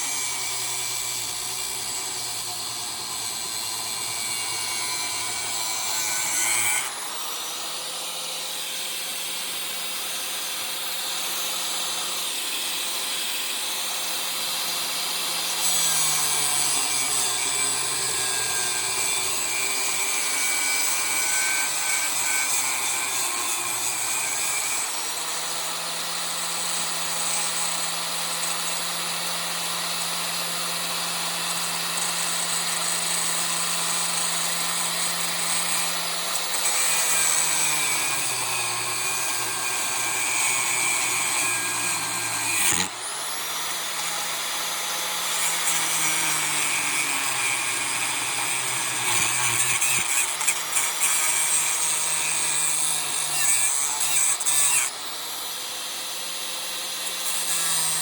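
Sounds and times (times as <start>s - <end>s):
angle grinder cutting metal: 0.0s - 58.0s.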